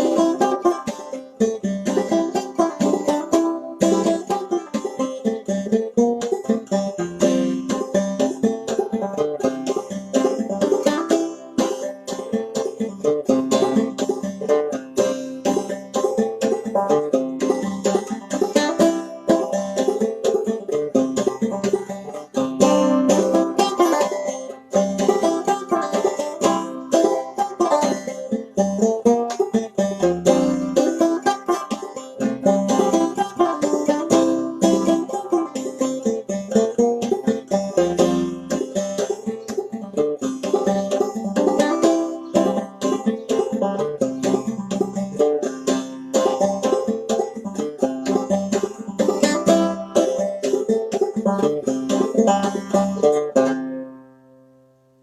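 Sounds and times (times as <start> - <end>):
banjo playing instrumental tune: 0.0 - 55.0.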